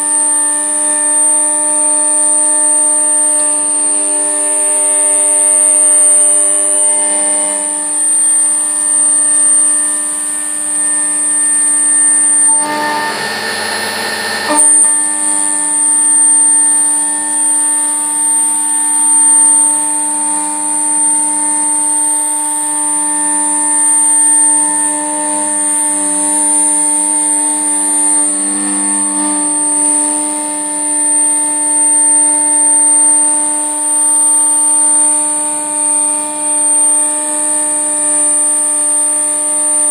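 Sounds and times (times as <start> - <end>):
milling machine hum: 0.0 - 39.9
rough machining noise: 0.0 - 39.9
high whistle: 0.1 - 39.9.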